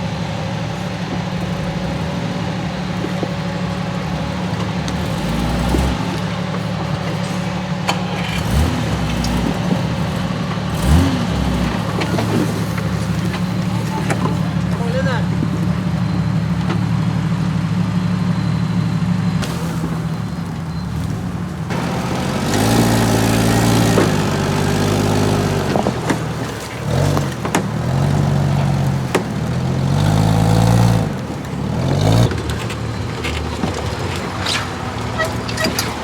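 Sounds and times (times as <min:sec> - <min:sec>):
off-road engine revving: 0:00.0 - 0:36.0.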